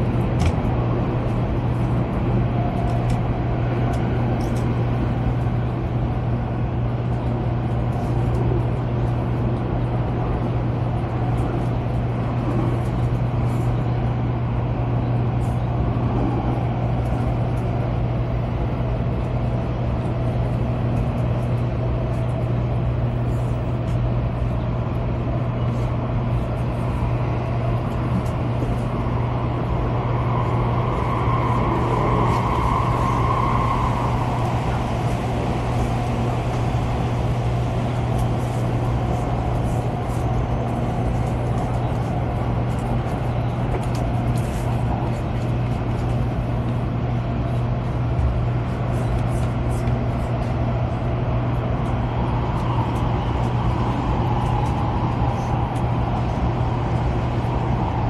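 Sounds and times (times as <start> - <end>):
train interior hum and rumble: 0.0 - 58.0.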